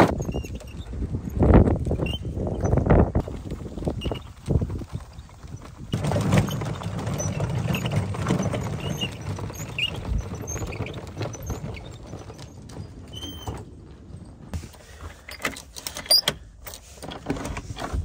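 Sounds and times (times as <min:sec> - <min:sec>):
carts rattling over gravel: 0:00.1 - 0:15.8.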